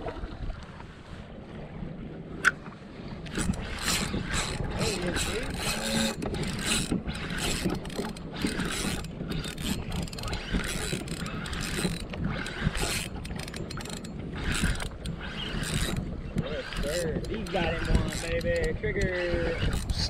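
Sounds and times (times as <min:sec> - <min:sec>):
fishing reel whirring and clicking: 0:03.2 - 0:20.0.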